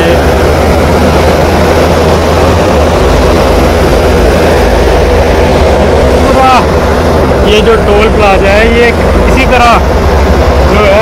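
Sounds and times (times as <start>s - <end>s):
constant hum: 0.0s - 11.0s
generator engine droning: 0.0s - 11.0s.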